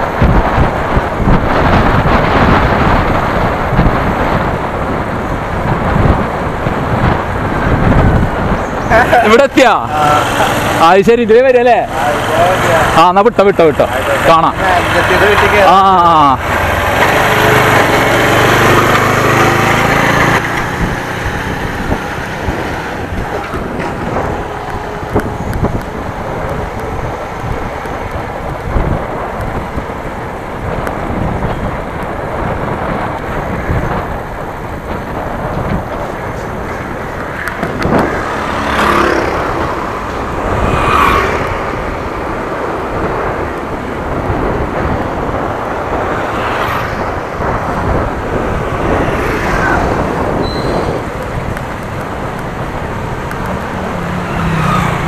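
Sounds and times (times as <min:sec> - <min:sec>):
engine: 0:00.0 - 0:55.0
vehicles passing: 0:00.0 - 0:55.0
wind buffeting microphone: 0:00.0 - 0:55.0.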